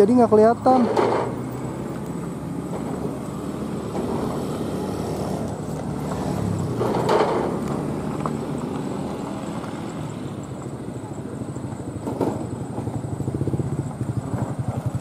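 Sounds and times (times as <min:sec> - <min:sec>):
vehicle engine running: 0:00.0 - 0:15.0
vehicle passing close by: 0:00.0 - 0:15.0.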